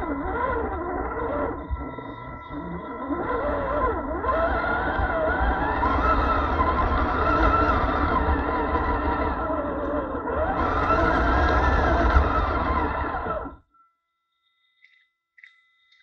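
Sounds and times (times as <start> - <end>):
low rumble over rough ground: 0.0 - 13.6
toy truck motor and gear whine: 0.0 - 13.6
faint steady whine: 0.0 - 16.0.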